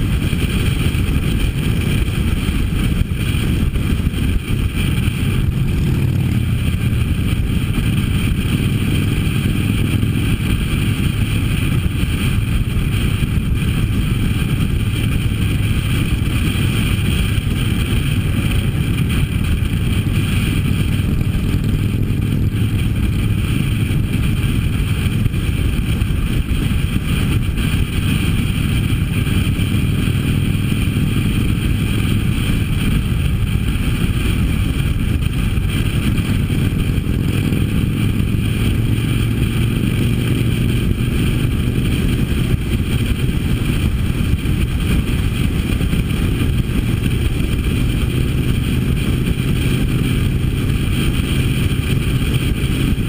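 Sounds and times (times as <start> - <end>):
motorcycle engine cruising: 0.0 - 53.0
wind and road rush: 0.0 - 53.0.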